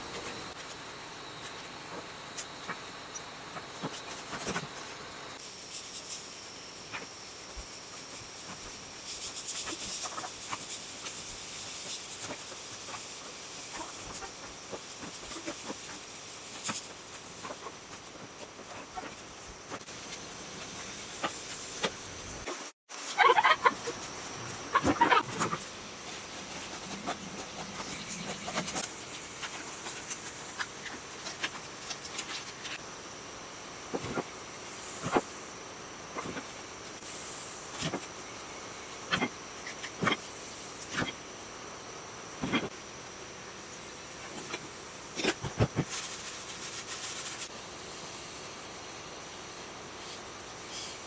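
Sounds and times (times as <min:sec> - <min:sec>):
cricket trilling: 0:00.0 - 0:51.0
steady high hiss: 0:00.0 - 0:51.0.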